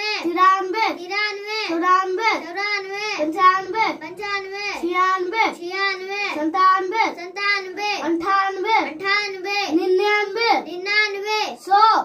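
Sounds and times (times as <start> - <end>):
boy chanting numbers: 0.0 - 12.0.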